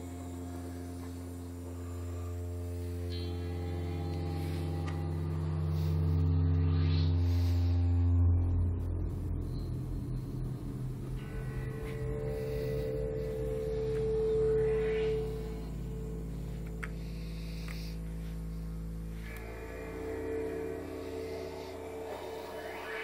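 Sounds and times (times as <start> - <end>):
synthesizer drone: 0.0 - 23.0.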